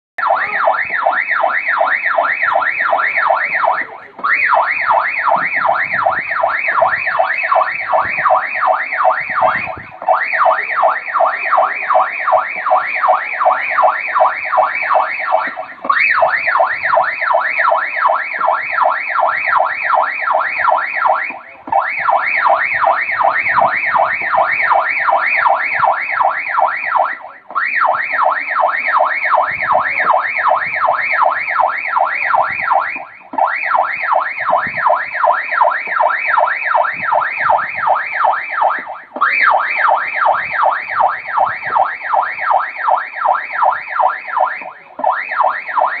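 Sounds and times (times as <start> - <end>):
electronic siren yelping: 0.2 - 46.0.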